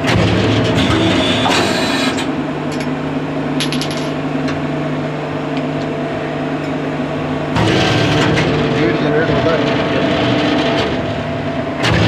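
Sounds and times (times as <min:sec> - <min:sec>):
hydraulic press humming: 0:00.0 - 0:12.0.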